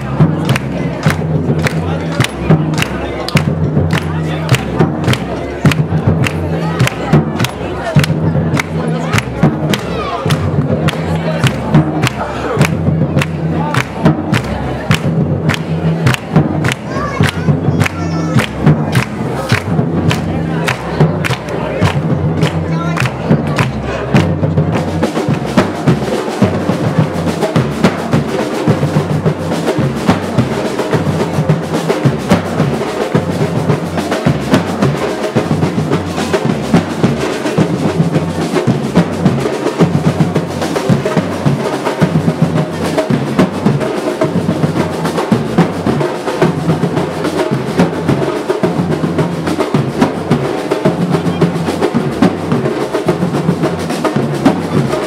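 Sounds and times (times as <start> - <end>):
snare rolls and bass drum beats: 0.0 - 55.0.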